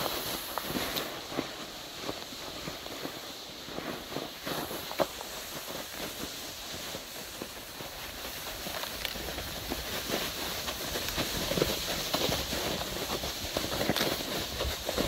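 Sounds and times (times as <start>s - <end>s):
footsteps in snow: 0.0s - 15.0s.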